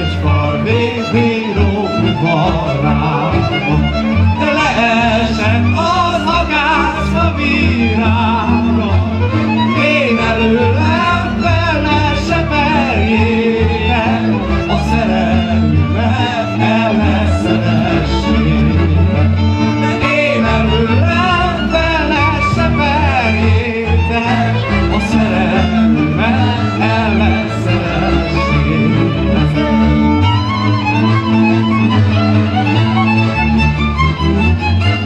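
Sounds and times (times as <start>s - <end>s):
accordion: 0.0s - 35.0s
double bass: 0.0s - 35.0s
fiddles playing dance melody: 0.0s - 35.0s.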